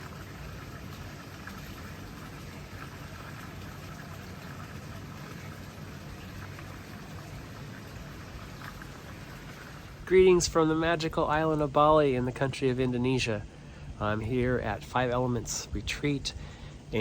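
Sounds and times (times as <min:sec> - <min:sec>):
steady hiss of rain: 0:00.0 - 0:17.0.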